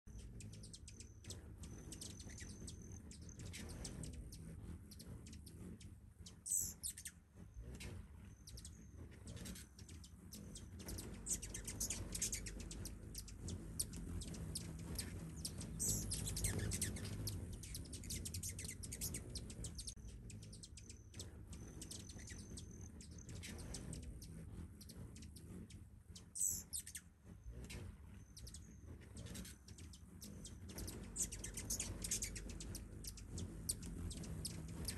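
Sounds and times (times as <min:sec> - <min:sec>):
hummingbirds chipping and chattering: 0:00.0 - 0:34.9
low steady rumble: 0:00.1 - 0:34.9.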